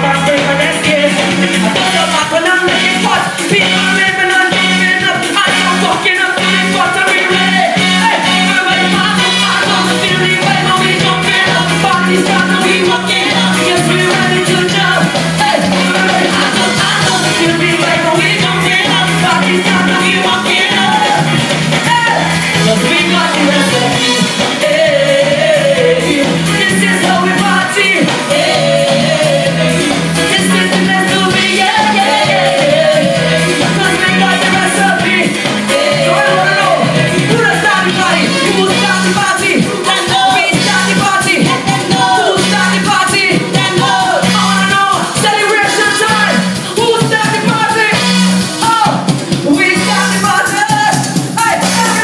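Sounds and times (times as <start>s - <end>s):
live calypso band playing: 0.0s - 52.0s
man singing: 0.0s - 52.0s
pulsing bass line: 0.0s - 52.0s.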